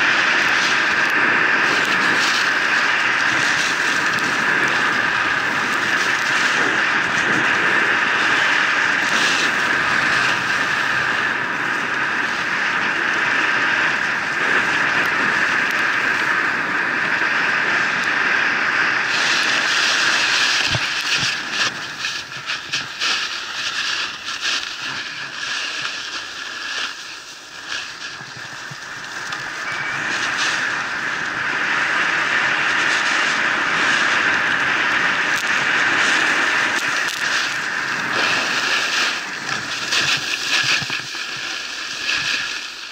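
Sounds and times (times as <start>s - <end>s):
skis scraping on snow: 0.0s - 42.9s
wind rushing over microphone: 0.0s - 42.9s.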